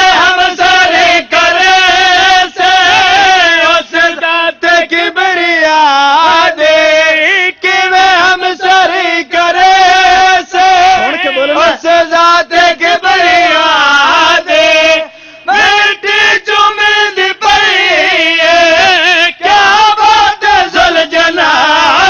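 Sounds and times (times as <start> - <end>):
man chanting through microphone: 0.0 - 22.0.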